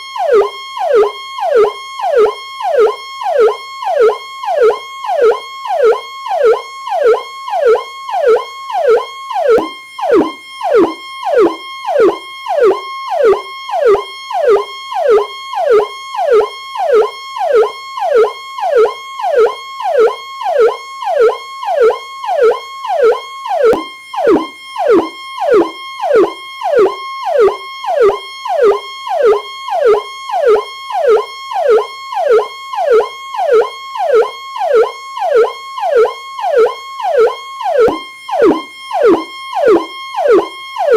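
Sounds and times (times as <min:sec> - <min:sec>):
electronic police siren: 0:00.0 - 0:40.9.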